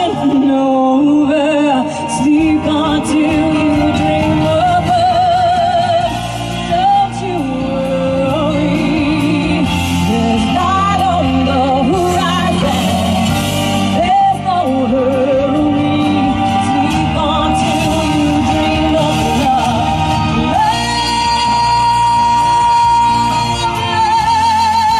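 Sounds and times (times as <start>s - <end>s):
sustained musical accompaniment: 0.0s - 24.9s
wordless singing with vibrato: 0.0s - 24.9s.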